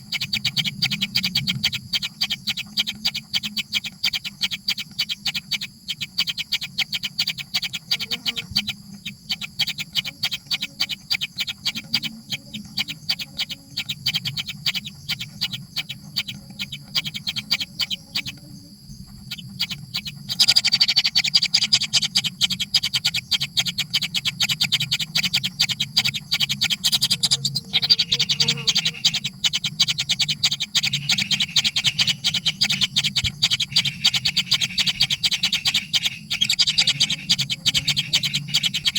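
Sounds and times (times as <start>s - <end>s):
bird chicks begging calls: 0.0s - 38.9s
steady low hum: 0.0s - 38.9s.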